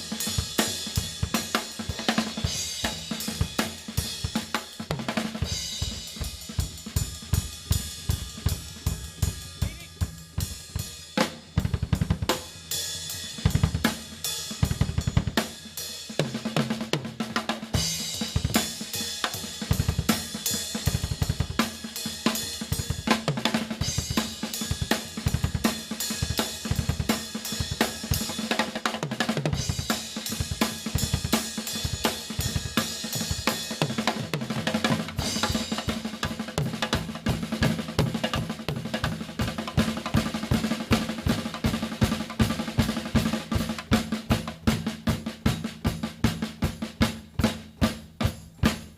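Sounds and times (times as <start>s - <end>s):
rapid drum strokes: 0.0s - 48.9s.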